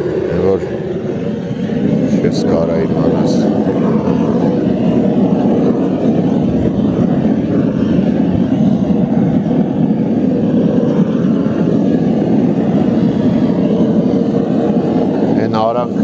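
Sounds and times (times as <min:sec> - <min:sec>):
propane torch burner rushing: 0:00.0 - 0:16.0.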